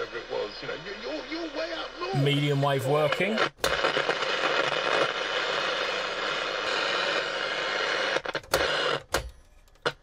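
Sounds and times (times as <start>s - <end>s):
radio static hiss: 0.0s - 9.1s.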